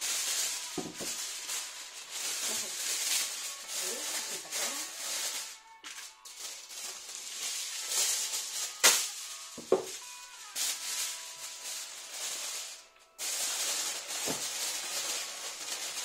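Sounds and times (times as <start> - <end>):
aluminium foil crinkling: 0.0 - 16.0
sharp foil crackles: 0.0 - 16.0.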